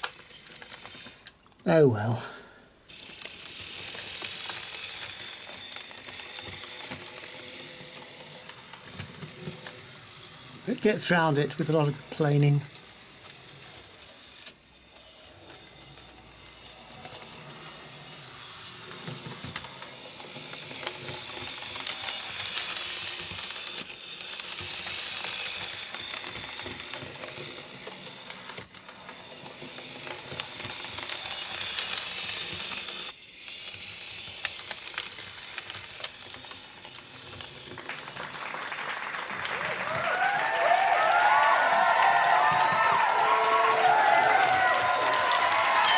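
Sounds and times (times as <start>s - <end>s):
model train motor whirring: 0.0s - 2.2s, 2.9s - 45.9s
wheels clicking on rails: 2.9s - 45.9s.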